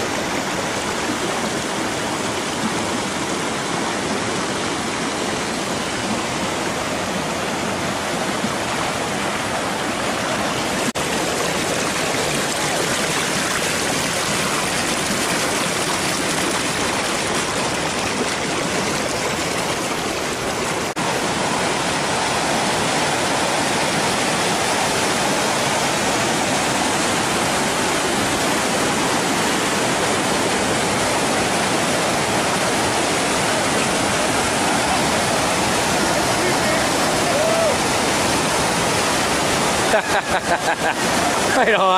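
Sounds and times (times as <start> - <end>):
water rushing over rock: 0.0 - 41.9.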